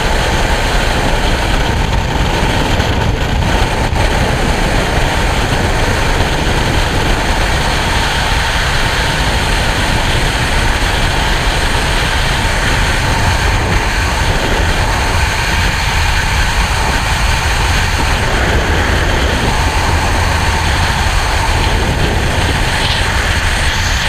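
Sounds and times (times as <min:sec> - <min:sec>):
freefall wind rushing: 0:00.0 - 0:24.0.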